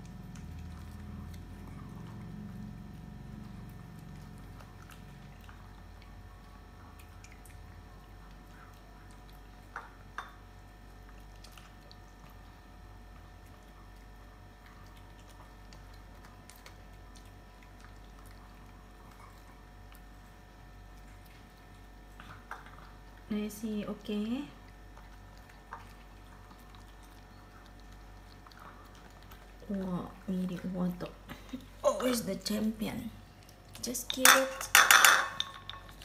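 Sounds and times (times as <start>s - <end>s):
dogs chewing: 0.0s - 34.5s, 35.1s - 36.0s
faint hum: 0.0s - 36.0s.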